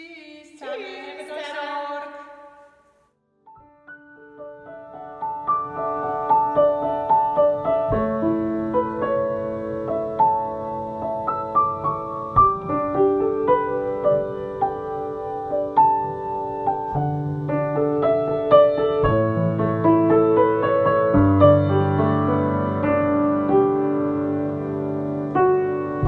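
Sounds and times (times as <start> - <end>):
solo piano music: 3.5 - 26.0.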